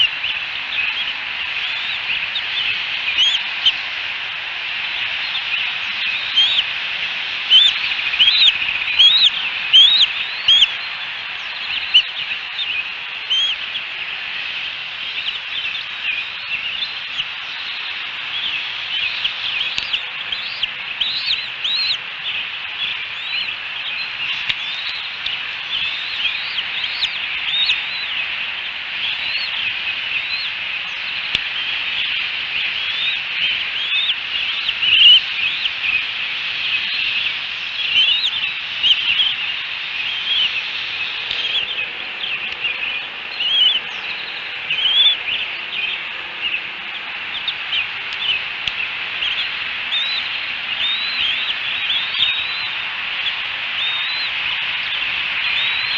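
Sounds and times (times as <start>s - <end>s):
eaglet chicks peeping: 0.0s - 55.9s
steady high hiss: 0.0s - 55.9s.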